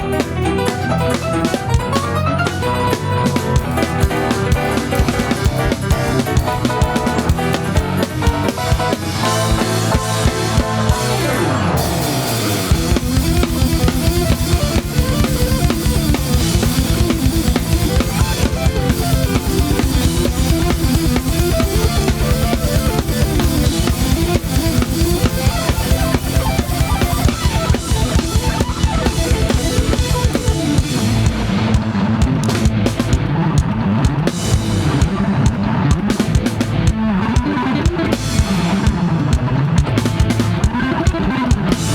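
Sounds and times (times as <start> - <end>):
backing music: 0.0 - 41.9.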